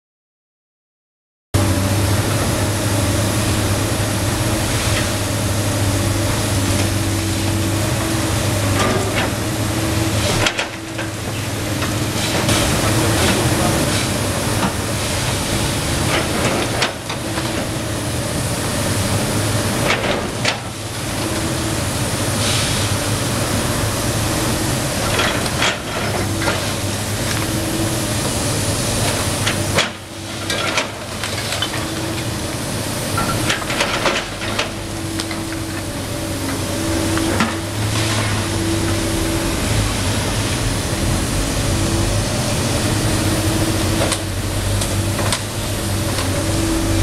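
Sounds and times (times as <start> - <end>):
excavator diesel engine running: 1.6 - 47.0
hydraulic whine: 1.6 - 47.0.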